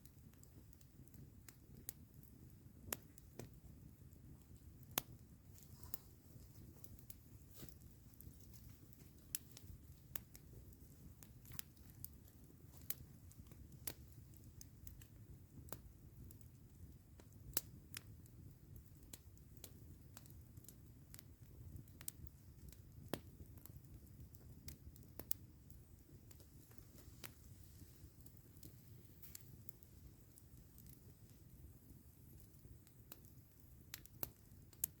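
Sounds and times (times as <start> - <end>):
campfire crackling: 0.0 - 35.0.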